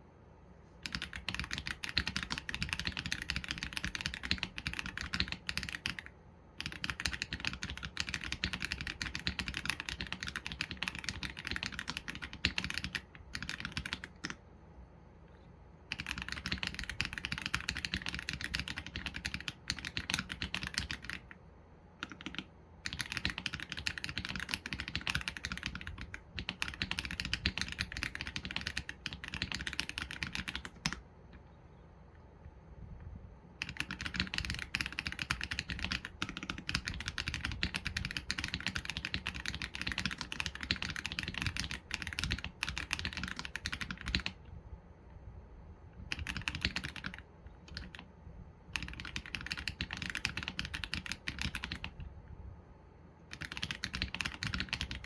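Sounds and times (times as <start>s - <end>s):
typing on mechanical keyboard: 0.8s - 14.4s, 15.9s - 21.4s, 22.0s - 31.1s, 33.6s - 44.4s, 46.0s - 48.1s, 48.7s - 52.1s, 53.2s - 55.0s.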